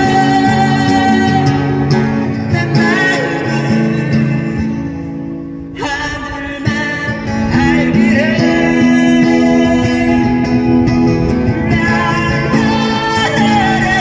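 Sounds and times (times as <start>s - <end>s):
person singing: 0.0s - 5.0s, 5.8s - 14.0s
acoustic guitar: 0.0s - 14.0s.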